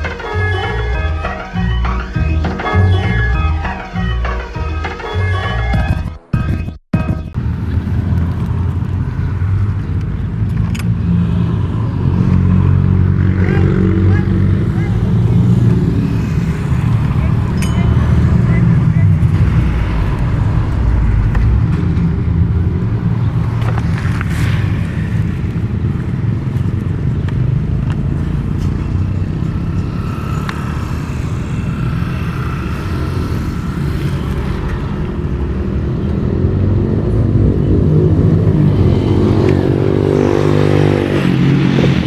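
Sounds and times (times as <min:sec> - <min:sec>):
motor vehicle engine rumbling: 0:00.0 - 0:39.8.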